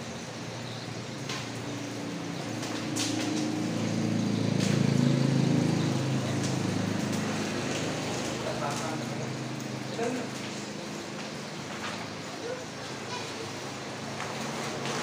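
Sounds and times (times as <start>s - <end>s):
heavy rain rumbling: 0.0s - 15.0s.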